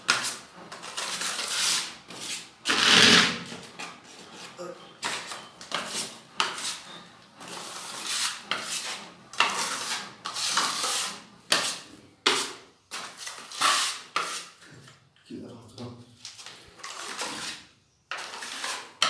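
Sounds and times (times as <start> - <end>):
scraping strokes on a wall: 0.0 - 15.0, 16.3 - 19.0.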